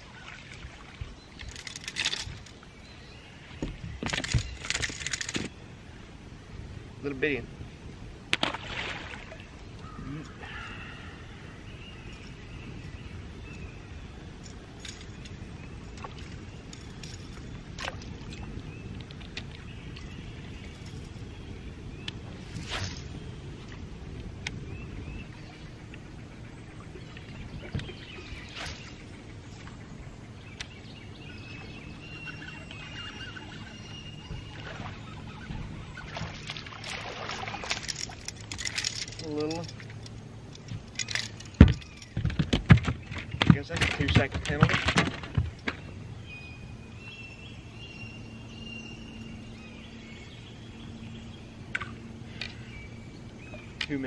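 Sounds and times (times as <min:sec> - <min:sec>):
birds chirping: 0:00.0 - 0:08.2, 0:08.9 - 0:54.0
low background hum: 0:00.0 - 0:54.0.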